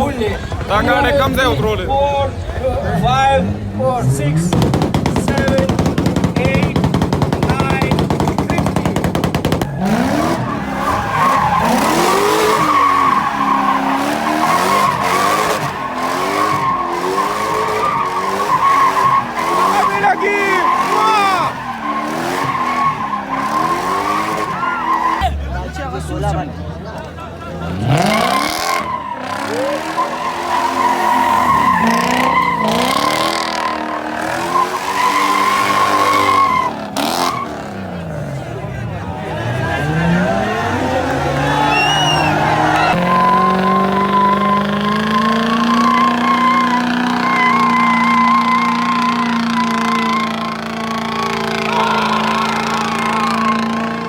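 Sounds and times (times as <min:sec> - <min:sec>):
car engine revving: 0:00.0 - 0:54.0
tyres squealing: 0:04.5 - 0:25.4, 0:27.7 - 0:54.0.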